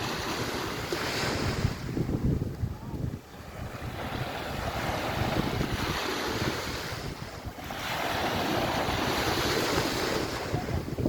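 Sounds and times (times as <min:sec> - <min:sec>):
sea waves washing onto beach: 0:00.0 - 0:11.0
wind buffeting microphone: 0:00.0 - 0:11.0.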